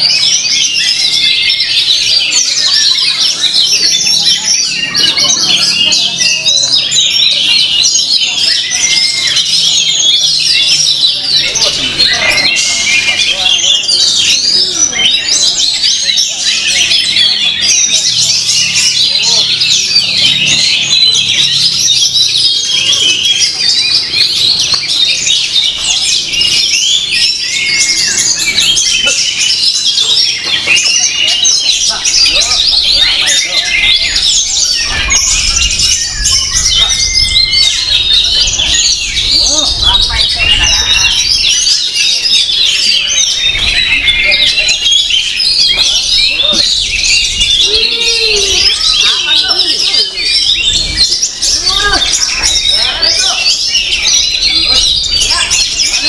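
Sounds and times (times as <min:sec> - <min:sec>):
other caged birds singing: 0:00.0 - 0:56.0
songbird chirping and trilling: 0:00.0 - 0:56.0.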